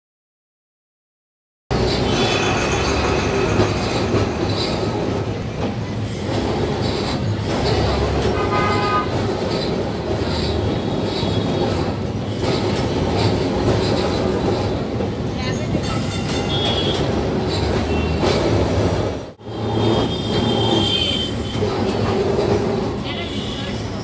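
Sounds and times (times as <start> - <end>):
tram rumbling and rattling: 1.7 - 24.0.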